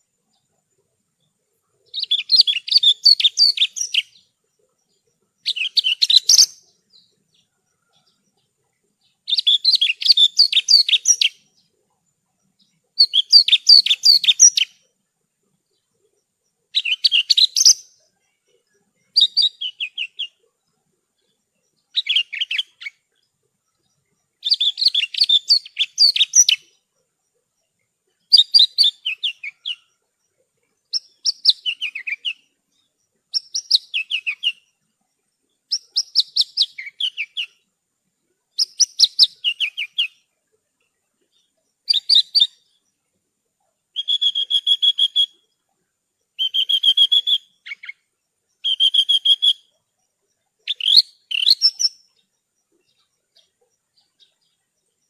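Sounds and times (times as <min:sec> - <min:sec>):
lark singing high chirps: 0:01.7 - 0:11.8, 0:12.4 - 0:15.0, 0:15.7 - 0:34.8, 0:35.4 - 0:37.7, 0:38.5 - 0:40.3, 0:41.2 - 0:43.0, 0:43.9 - 0:45.6, 0:46.2 - 0:55.0.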